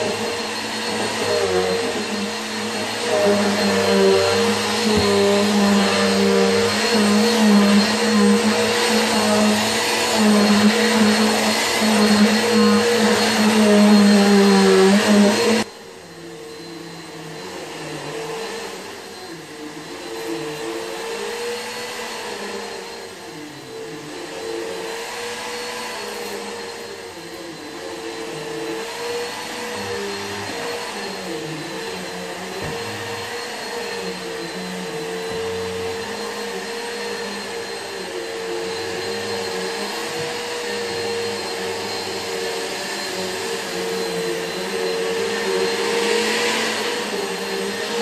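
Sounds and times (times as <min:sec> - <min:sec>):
upright vacuum cleaner running: 0:00.0 - 0:48.0.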